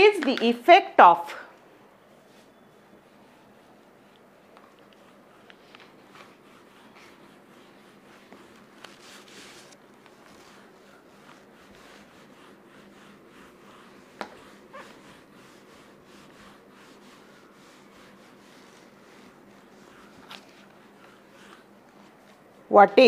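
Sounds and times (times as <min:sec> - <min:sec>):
duster wiping marker board: 0:02.1 - 0:23.0.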